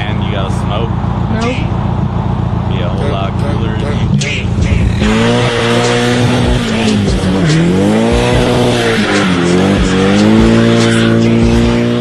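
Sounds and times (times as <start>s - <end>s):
car engine running: 0.0s - 12.0s
car tyres squealing: 0.0s - 12.0s.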